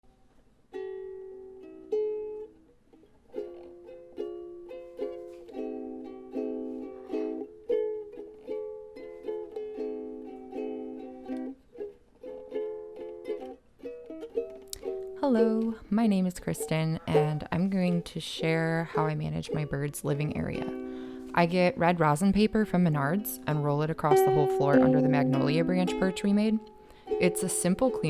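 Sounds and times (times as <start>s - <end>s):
ukulele strumming chords: 0.7s - 28.0s.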